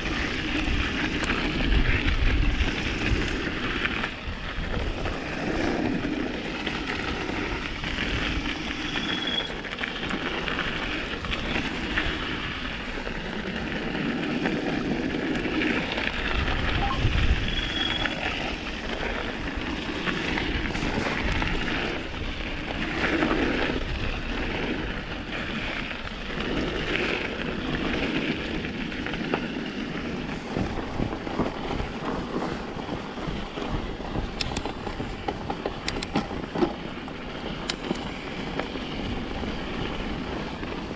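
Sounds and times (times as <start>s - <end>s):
bike tyre noise on dirt: 0.0s - 40.9s
wind on microphone: 0.0s - 40.9s.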